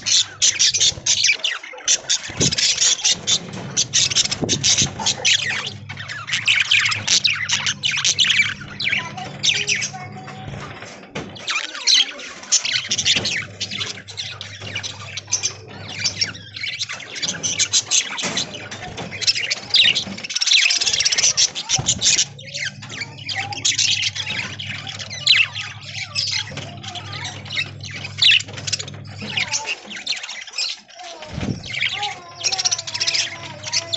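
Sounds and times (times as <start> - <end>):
budgerigars chirping and squawking: 0.0 - 33.9.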